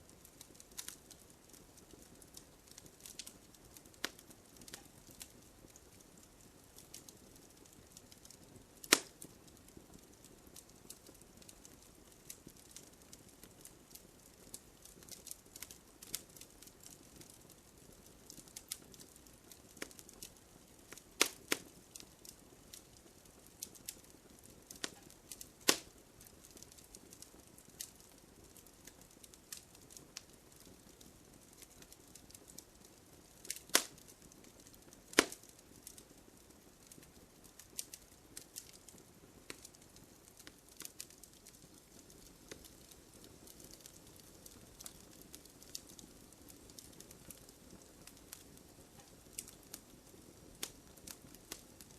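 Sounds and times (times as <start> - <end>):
wood fire crackling: 0.0 - 51.9
loud sharp pops of burning wood: 0.2 - 51.9.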